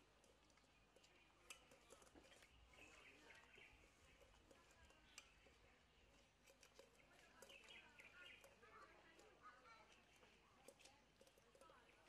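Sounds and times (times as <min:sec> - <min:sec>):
faint clicks and knocks: 0:00.0 - 0:12.0.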